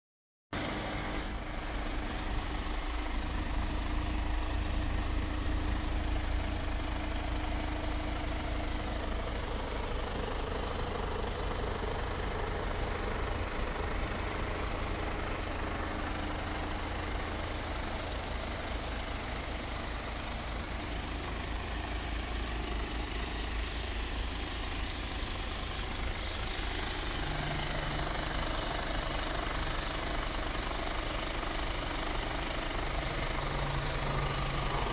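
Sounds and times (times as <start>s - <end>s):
diesel truck engine idling: 0.6s - 34.9s.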